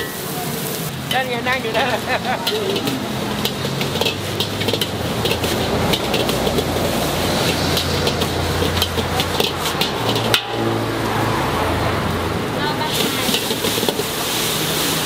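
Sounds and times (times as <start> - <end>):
metal ladle scraping a wok: 0.0 - 11.9, 12.8 - 15.0
gas burner roaring: 0.0 - 15.0.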